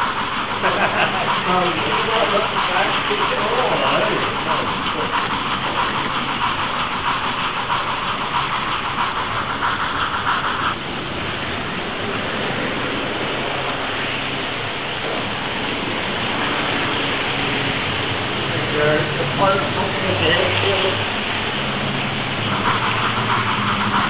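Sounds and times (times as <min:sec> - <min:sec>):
model train hissing run noise: 0:00.0 - 0:24.0.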